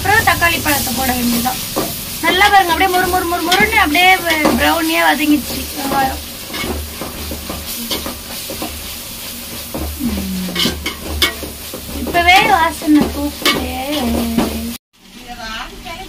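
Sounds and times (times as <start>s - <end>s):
oil sizzling: 0.0s - 16.0s
metal spoon scraping onions in pot: 1.3s - 14.6s.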